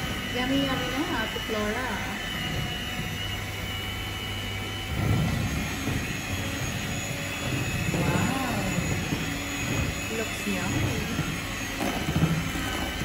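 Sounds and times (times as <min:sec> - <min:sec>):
electric hand mixer whirring: 0:00.0 - 0:13.0.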